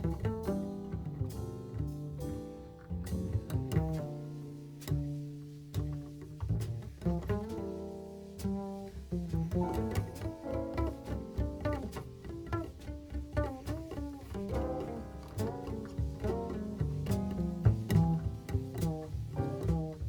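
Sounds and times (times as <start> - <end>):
plucked double bass: 0.0 - 20.0.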